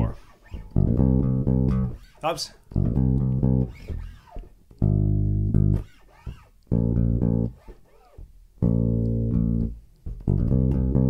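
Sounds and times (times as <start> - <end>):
electric bass plucked notes: 0.0 - 11.0.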